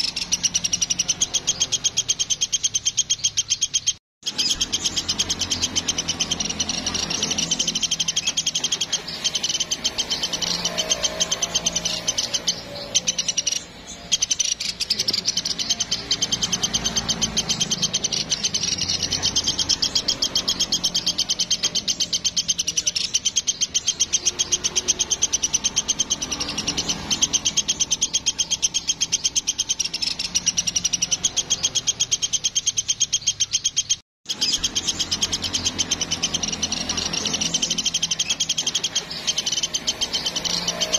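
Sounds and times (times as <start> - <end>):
bird singing rapid trill: 0.0 - 40.9.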